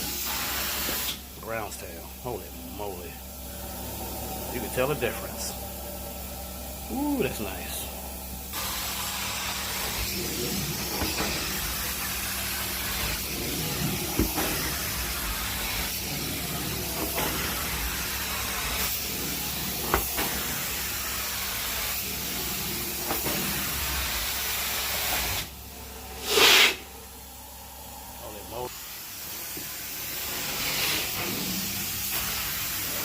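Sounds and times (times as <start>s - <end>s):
carpet cleaner spraying and sucking: 0.0s - 6.1s, 6.8s - 27.0s, 28.2s - 33.0s.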